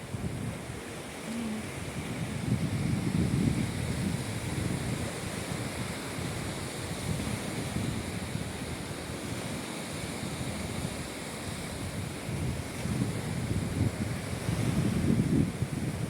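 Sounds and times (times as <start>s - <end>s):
waves washing onto beach: 0.0s - 16.0s
wind buffeting microphone: 0.0s - 16.0s.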